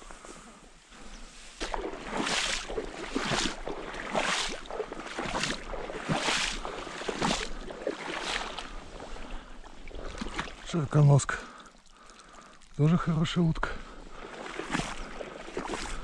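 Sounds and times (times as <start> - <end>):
footsteps wading through water: 0.0 - 16.0.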